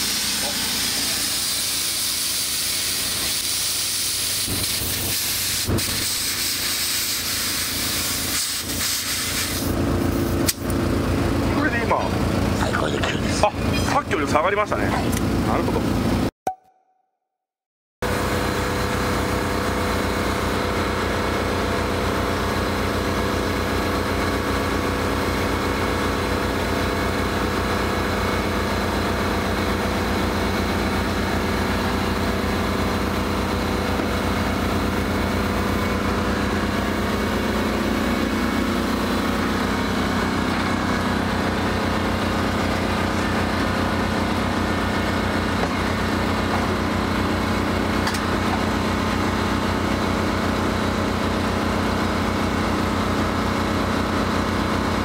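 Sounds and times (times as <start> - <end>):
air compressor engine running: 0.0 - 16.3, 18.0 - 55.0.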